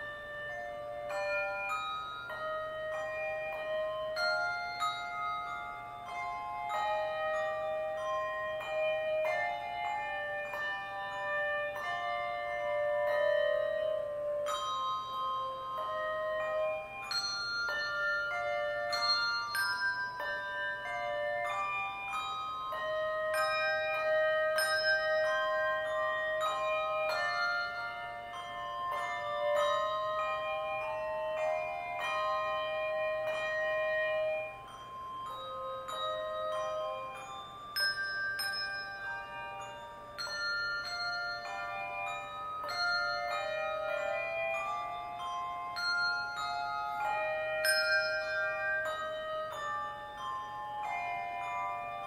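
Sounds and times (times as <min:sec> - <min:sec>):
handbell choir playing: 0:00.0 - 0:52.0.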